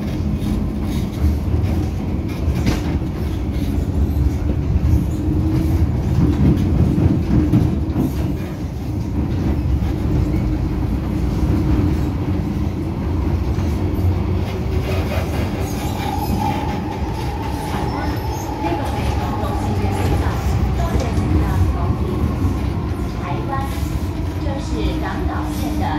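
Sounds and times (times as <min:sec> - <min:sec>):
train rumbling on track: 0:00.0 - 0:25.9.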